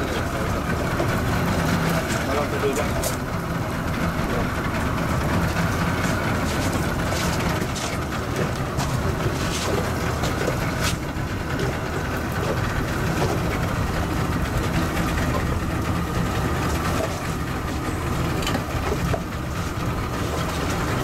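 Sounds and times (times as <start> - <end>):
outboard motor running: 0.0 - 21.0
water noise: 0.0 - 21.0
wind: 0.0 - 21.0.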